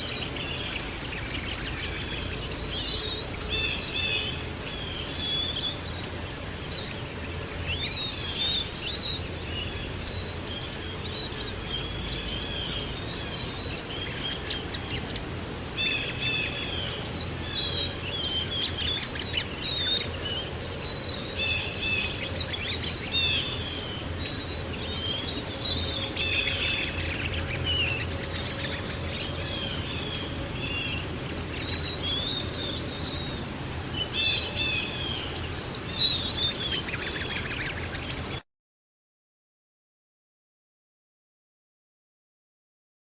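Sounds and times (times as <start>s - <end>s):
songbirds chirping and warbling: 0.0s - 38.4s.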